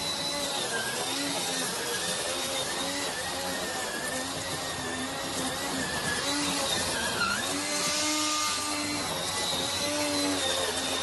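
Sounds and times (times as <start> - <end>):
motor whine: 0.0 - 11.0.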